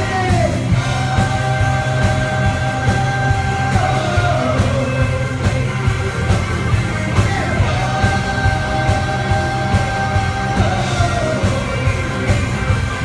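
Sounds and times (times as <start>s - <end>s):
person singing: 0.0s - 5.8s, 7.2s - 12.4s
blues-rock band playing: 0.0s - 13.0s.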